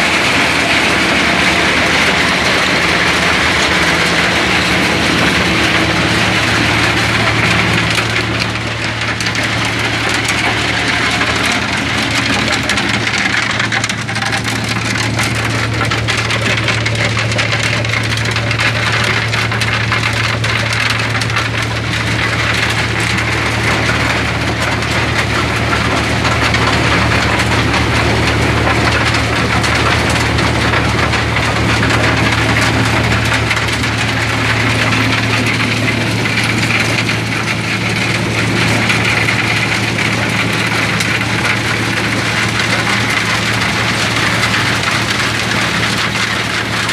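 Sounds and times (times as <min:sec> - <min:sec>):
stone crusher drone: 0:00.0 - 0:46.9
rock clattering and crackling: 0:00.3 - 0:46.9.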